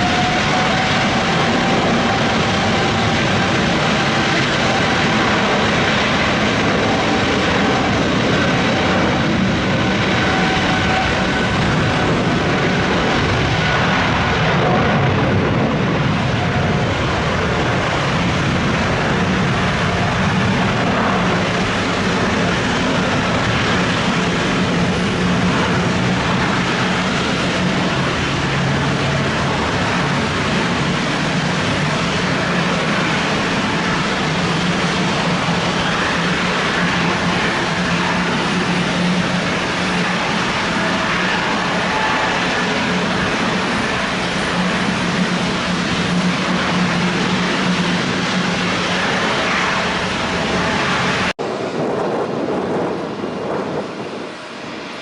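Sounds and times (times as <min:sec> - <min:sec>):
jet engines roaring: 0:00.0 - 0:55.0
jet fan whine: 0:00.0 - 0:55.0.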